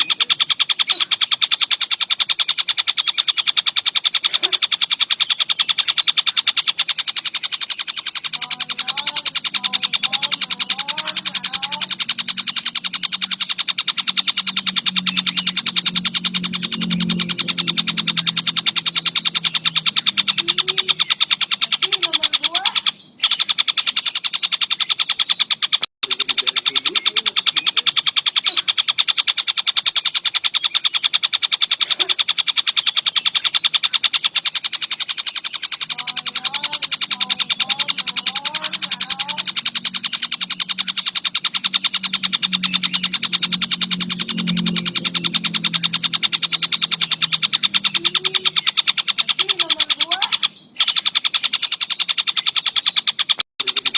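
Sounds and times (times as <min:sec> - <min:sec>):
kingfisher harsh rapid calls: 0:00.0 - 0:53.9.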